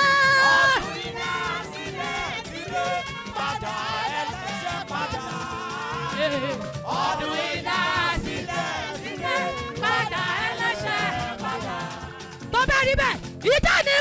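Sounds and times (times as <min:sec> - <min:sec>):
lead singer voice: 0:00.0 - 0:12.5
women's choir singing gospel: 0:00.0 - 0:12.5.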